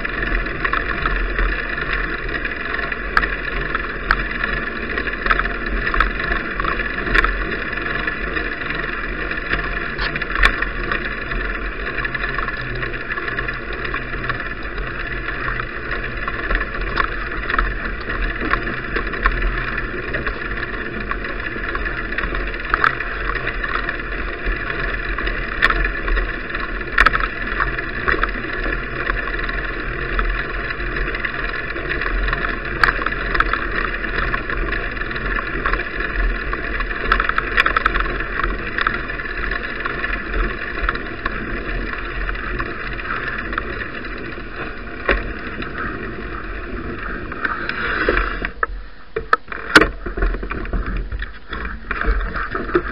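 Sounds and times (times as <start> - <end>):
bicycle riding wind rush: 0.0 - 52.9.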